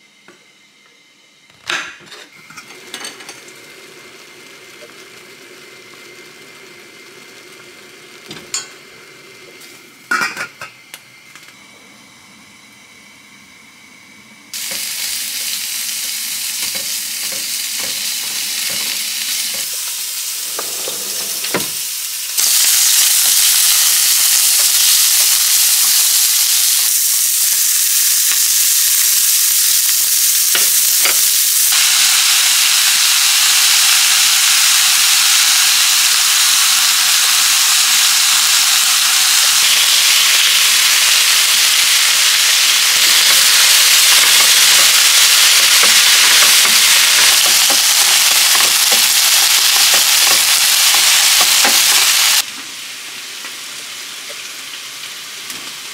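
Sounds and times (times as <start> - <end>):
food sizzling in frying pan: 0.0 - 11.4, 14.5 - 55.9.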